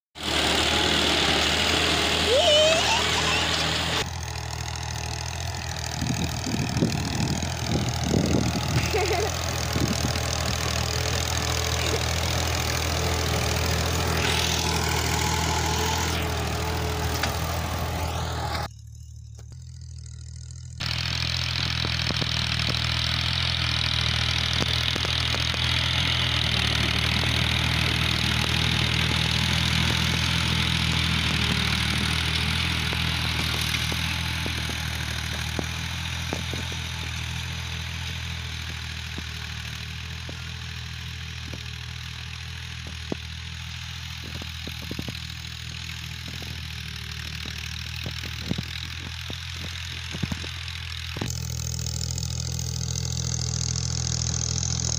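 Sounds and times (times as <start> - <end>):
tractor engine running: 0.2 - 54.9.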